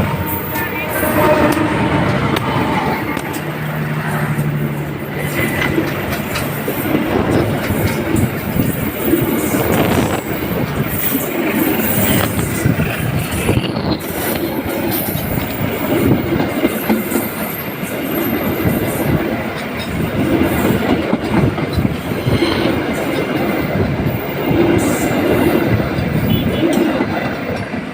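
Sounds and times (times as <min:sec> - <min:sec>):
train coaches rumbling past: 0:00.0 - 0:27.9
wheels clattering over rail joints: 0:01.5 - 0:27.9.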